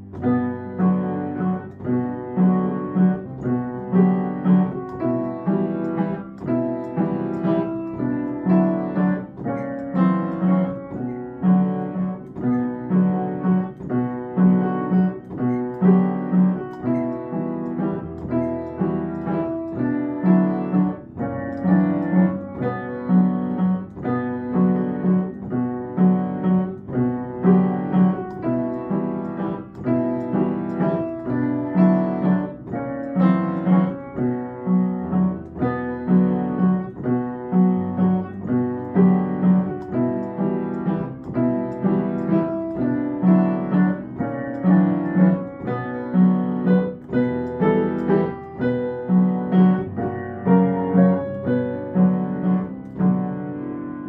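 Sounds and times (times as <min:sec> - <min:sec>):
piano chords: 0:00.0 - 0:54.0.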